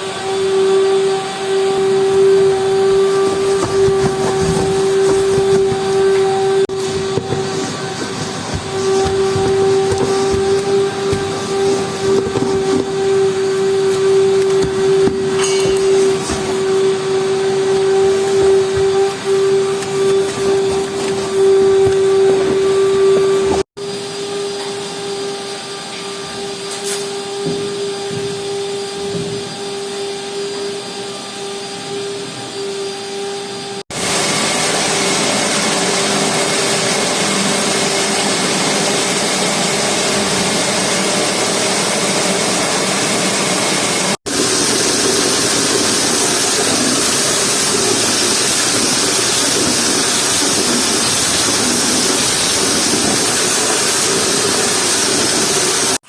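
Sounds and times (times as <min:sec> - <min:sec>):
duct-cleaning machinery running: 0:00.0 - 0:56.0.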